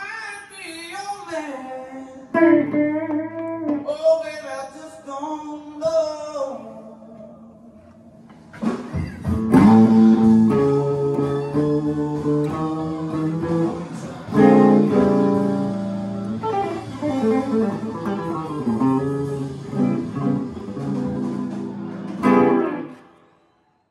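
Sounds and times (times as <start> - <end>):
full band recording: 0.0 - 23.5
electric guitar blues-rock: 1.7 - 5.1, 5.8 - 23.0.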